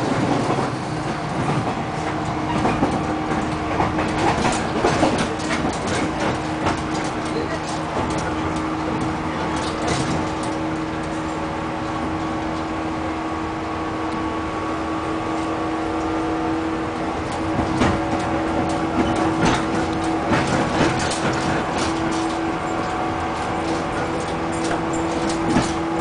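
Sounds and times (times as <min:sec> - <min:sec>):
wheel clacks over rail joints: 0:00.0 - 0:12.7, 0:17.0 - 0:26.0
train carriage rumble: 0:00.0 - 0:26.0.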